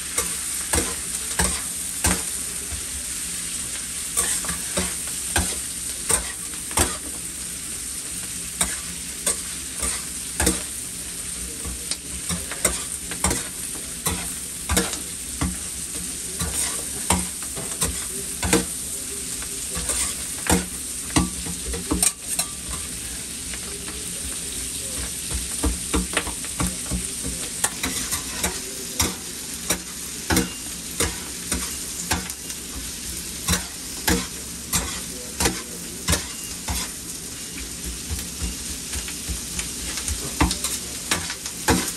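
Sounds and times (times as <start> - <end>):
food sizzling on griddle: 0.0 - 41.9.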